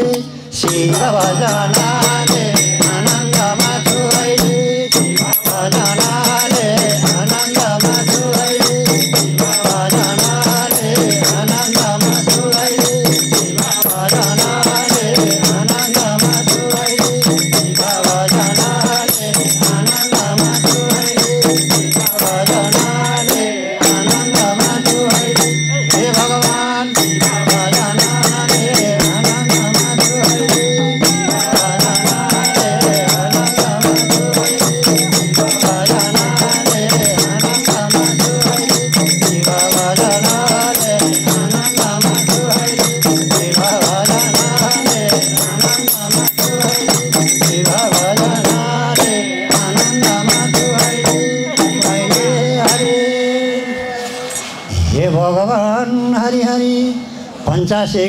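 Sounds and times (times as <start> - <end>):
hand frame drums beating: 0.0 - 53.2
small hand cymbals ringing: 0.0 - 54.8.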